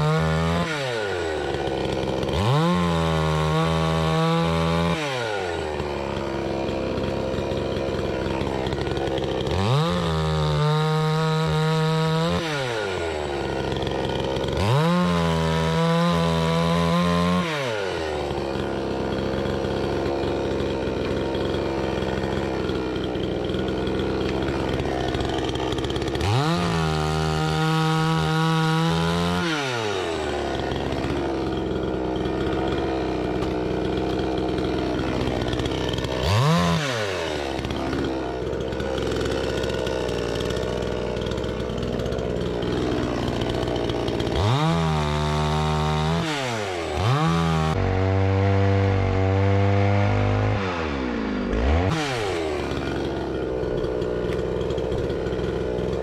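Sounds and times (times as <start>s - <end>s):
chainsaw revving while sawing wood: 0.0s - 56.0s.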